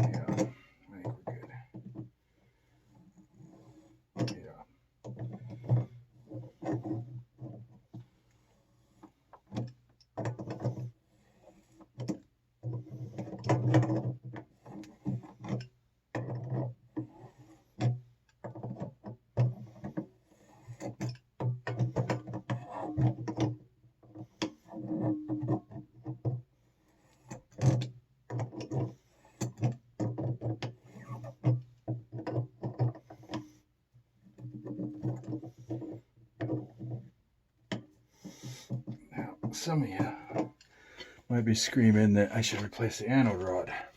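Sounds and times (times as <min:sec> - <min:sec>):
creaking and scraping threads: 0:00.0 - 0:43.9.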